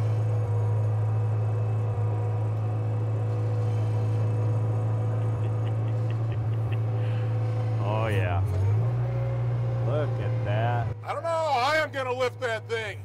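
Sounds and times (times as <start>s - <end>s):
loader engine droning: 0.0s - 13.0s.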